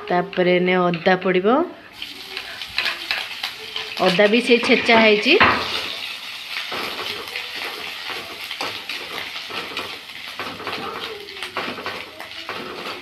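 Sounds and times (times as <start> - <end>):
spatula scraping wok: 1.8 - 13.0
onions sizzling in hot oil: 1.9 - 13.0.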